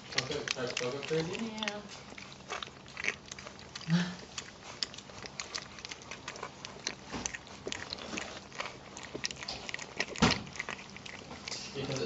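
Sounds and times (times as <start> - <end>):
puppies lapping milk: 0.0 - 12.0.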